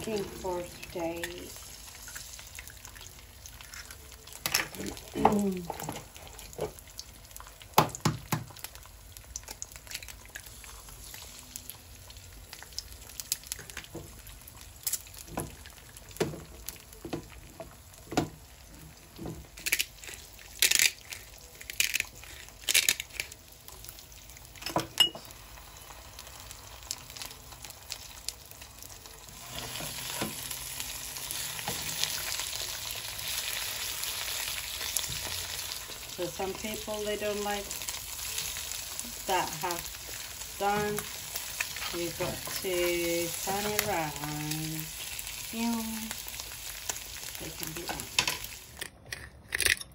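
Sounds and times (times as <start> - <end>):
eggs sizzling in frying pan: 0.0 - 49.1.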